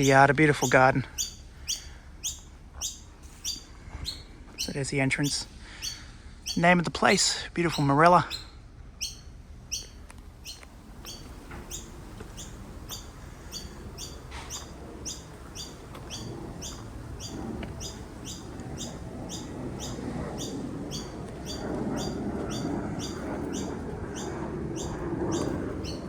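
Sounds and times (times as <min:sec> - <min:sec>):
bird chirping: 0:00.0 - 0:06.9, 0:07.7 - 0:26.0.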